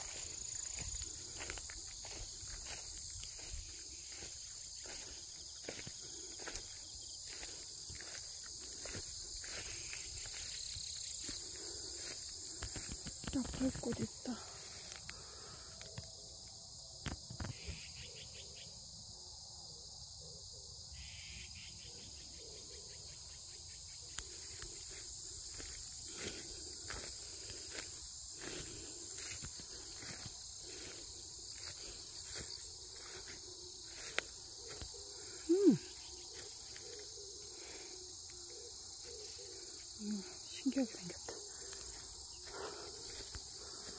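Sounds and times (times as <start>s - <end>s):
crickets and insects chirping: 0.0s - 43.9s.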